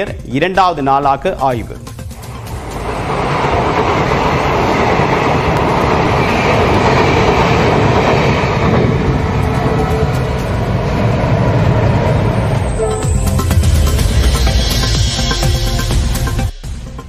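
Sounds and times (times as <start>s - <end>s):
train wheels rumbling on rails: 1.2s - 16.6s.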